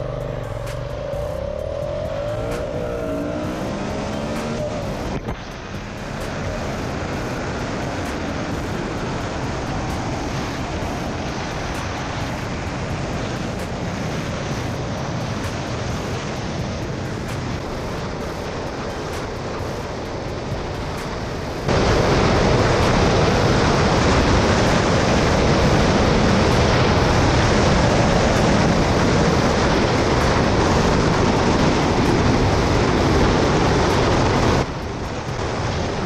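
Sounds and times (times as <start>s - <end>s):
motorcycle engine at road speed: 0.0s - 36.0s
wind rushing on microphone: 0.0s - 36.0s.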